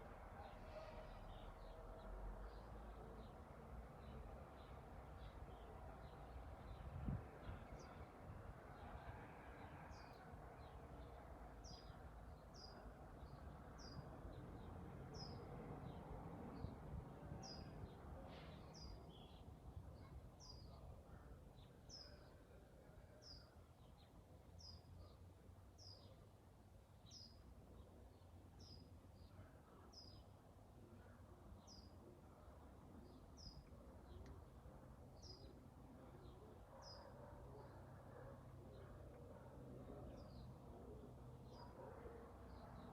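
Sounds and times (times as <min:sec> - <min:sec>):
low background noise: 0:00.0 - 0:42.9.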